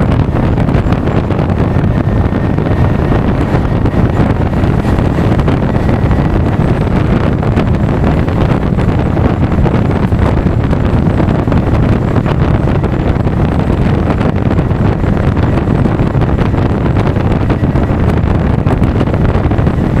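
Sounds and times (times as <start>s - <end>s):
scooter engine and road noise: 0.0s - 20.0s
wind rushing over microphone: 0.0s - 20.0s.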